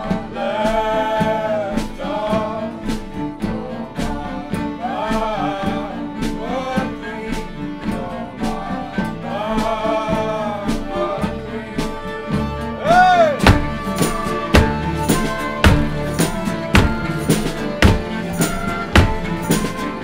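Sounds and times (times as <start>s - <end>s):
people singing: 0.0s - 20.0s
strummed acoustic guitar: 0.0s - 20.0s.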